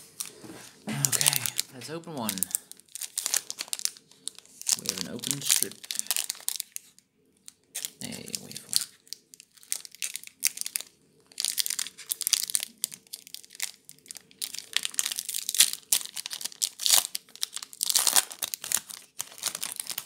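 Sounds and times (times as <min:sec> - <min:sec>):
foil wrapper crinkling and tearing: 0:00.9 - 0:06.9, 0:07.7 - 0:20.0.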